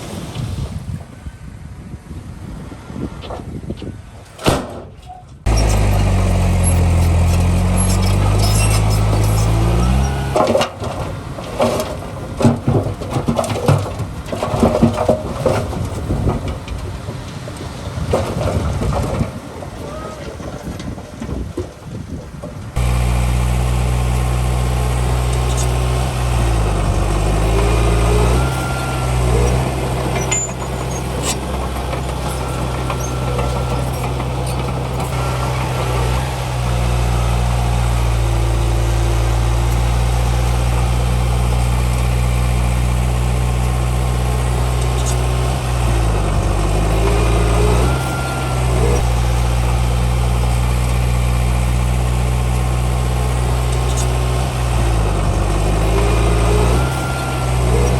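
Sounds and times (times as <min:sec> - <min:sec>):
heavy diesel engine running: 0:05.4 - 0:57.9.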